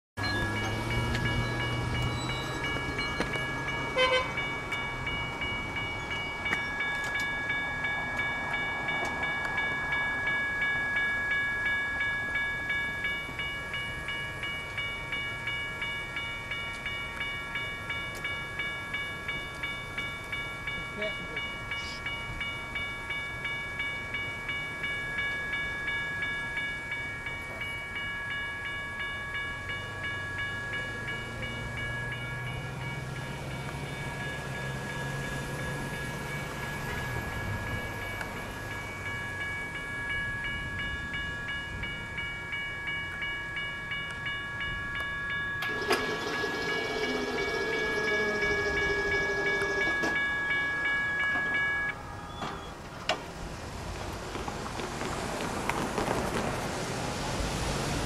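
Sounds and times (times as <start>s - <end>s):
railroad crossing bell ringing: 0.2s - 53.9s.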